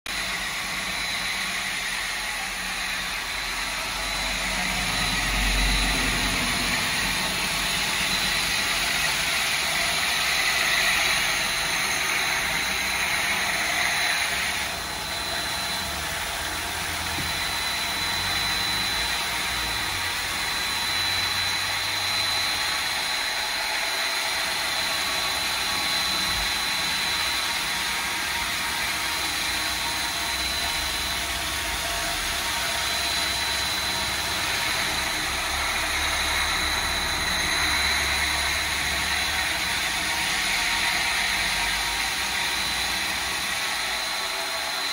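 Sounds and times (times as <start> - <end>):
stone polishing machine grinding: 0.1 - 44.9.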